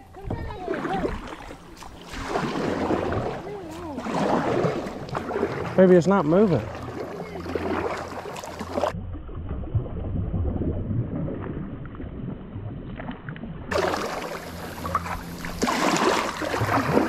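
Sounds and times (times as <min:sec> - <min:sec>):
low steady rumble: 0:00.0 - 0:17.0
water lapping against kayak hull: 0:00.0 - 0:17.0.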